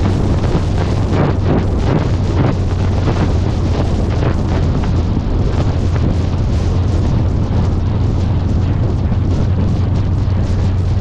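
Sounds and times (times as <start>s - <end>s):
car engine and tyre drone: 0.0s - 11.0s
wind buffeting microphone: 0.0s - 11.0s.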